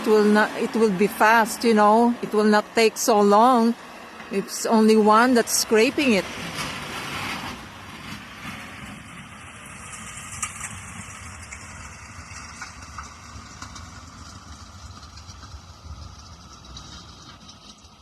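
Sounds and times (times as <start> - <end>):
heavy vehicle engine rumbling: 0.0 - 18.0.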